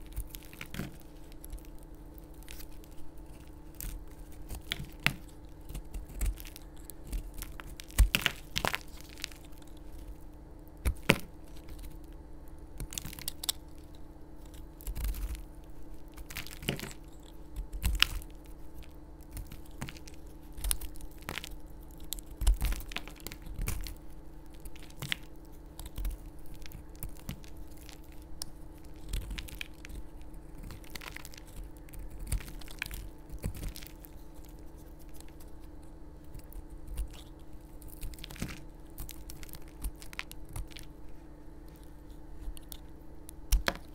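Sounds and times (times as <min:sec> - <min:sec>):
sponge pieces snapping: 0:00.0 - 0:41.0, 0:41.6 - 0:43.9.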